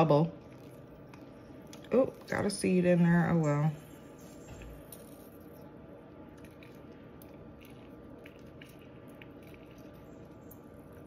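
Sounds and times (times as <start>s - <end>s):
wet squishing of lemon: 0.3s - 2.6s, 4.0s - 11.0s.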